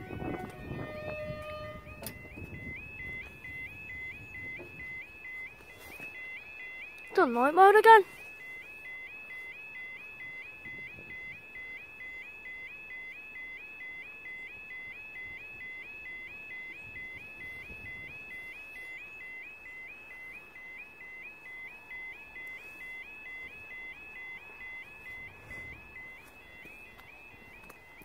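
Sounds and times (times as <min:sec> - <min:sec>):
level crossing warning alarm: 0:00.0 - 0:28.0.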